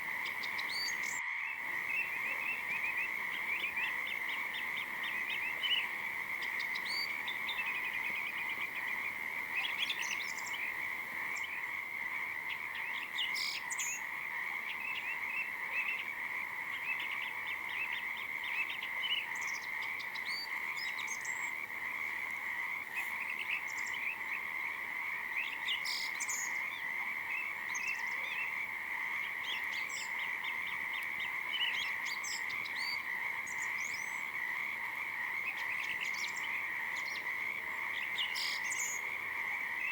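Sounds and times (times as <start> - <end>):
frogs trilling in chorus: 0.0 - 39.9.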